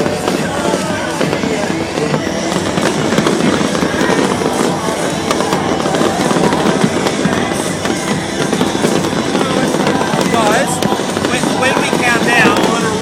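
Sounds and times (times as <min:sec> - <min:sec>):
fireworks crackling and popping: 0:00.0 - 0:13.0
music playing: 0:00.0 - 0:13.0.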